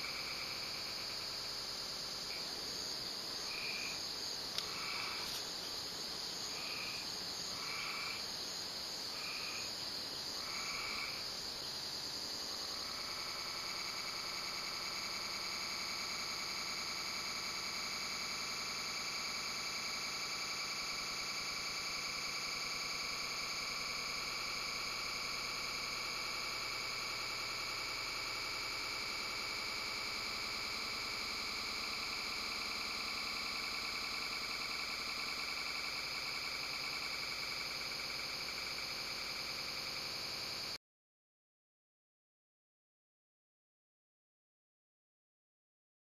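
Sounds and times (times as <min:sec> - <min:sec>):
night insects chorus: 0:00.0 - 0:40.8
short insect call: 0:00.0 - 0:40.8.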